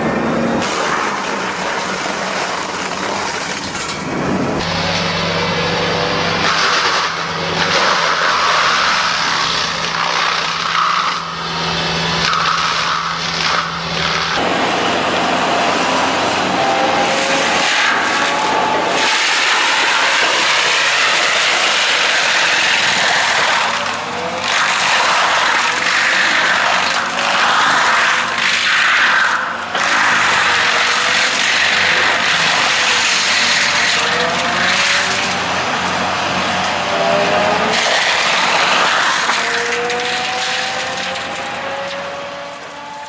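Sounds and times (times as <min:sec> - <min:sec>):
wood-cutting machinery rasping: 0:06.2 - 0:43.0.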